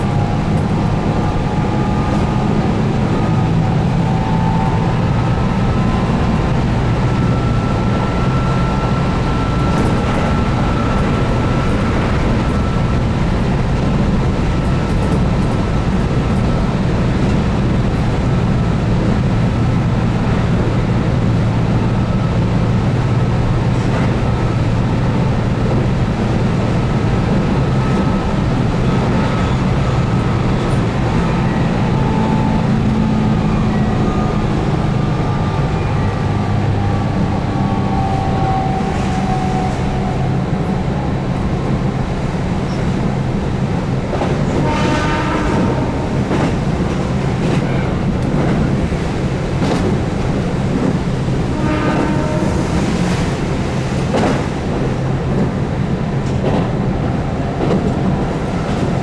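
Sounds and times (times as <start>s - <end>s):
electric train running: 0.0s - 59.0s
wheels rumbling on rail: 0.0s - 59.0s.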